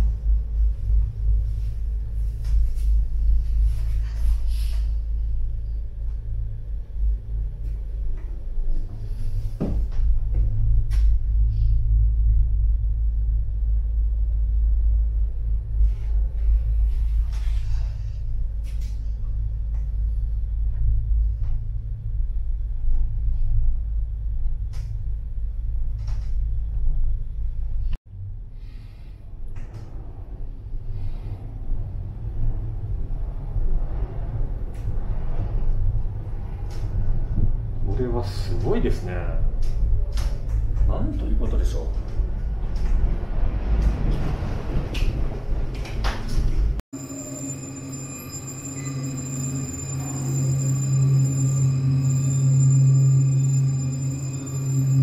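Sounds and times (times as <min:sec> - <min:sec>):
low rumble of moving cabin: 0:00.0 - 0:47.2.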